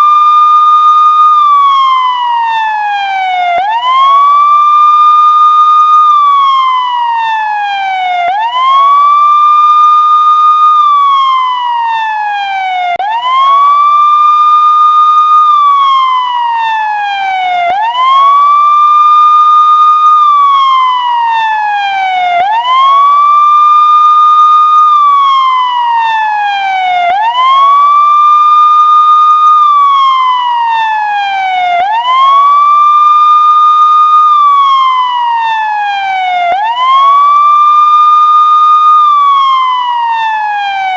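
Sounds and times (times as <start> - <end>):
electronic siren wailing: 0.0 - 40.9.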